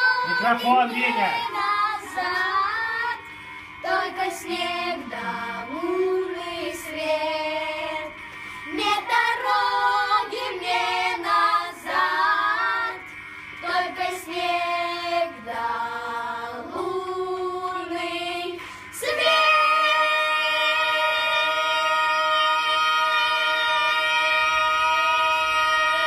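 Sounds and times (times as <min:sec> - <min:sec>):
boys singing together: 0:00.0 - 0:03.2, 0:03.8 - 0:26.0.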